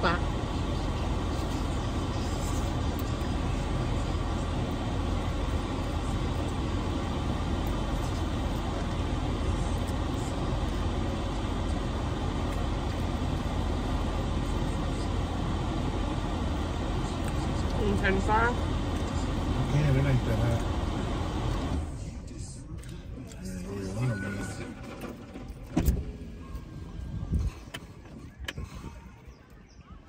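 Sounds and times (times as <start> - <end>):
car idling: 0.0 - 30.0.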